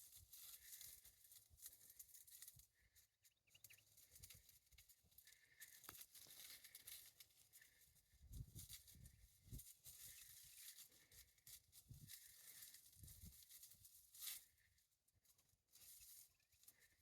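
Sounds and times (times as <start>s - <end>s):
faint rustling and crackling: 0.0s - 17.0s.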